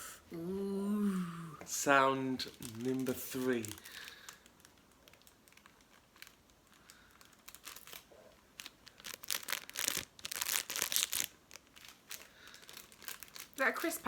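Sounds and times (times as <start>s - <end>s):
crinkling and crackling: 1.6s - 14.0s.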